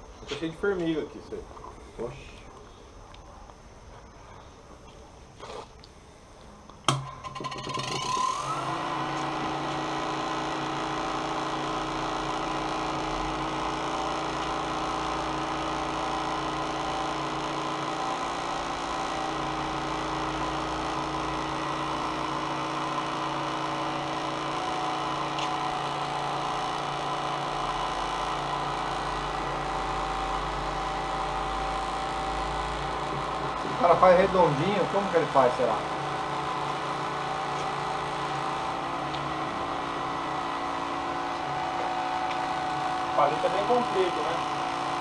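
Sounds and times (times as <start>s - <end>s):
cotton candy machine whirring: 6.8s - 45.0s.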